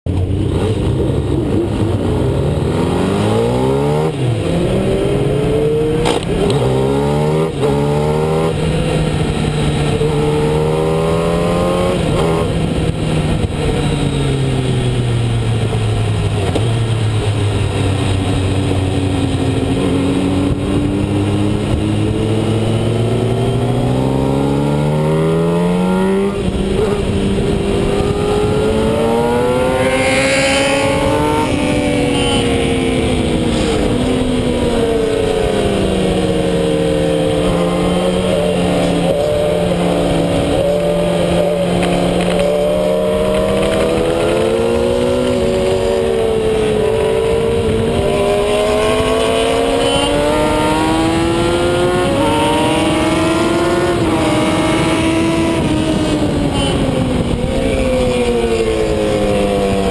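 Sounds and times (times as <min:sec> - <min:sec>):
motorcycle engine accelerating: 0:00.1 - 0:59.9.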